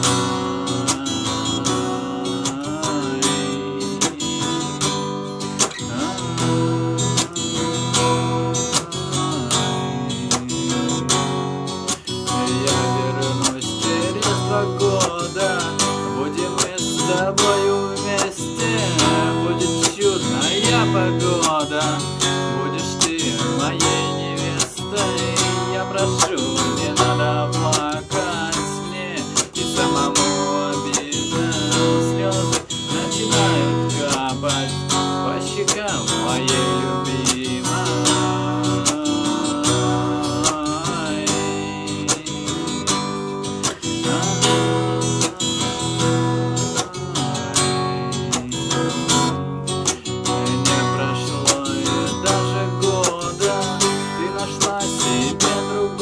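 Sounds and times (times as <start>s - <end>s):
strummed acoustic guitar: 0.0s - 56.0s.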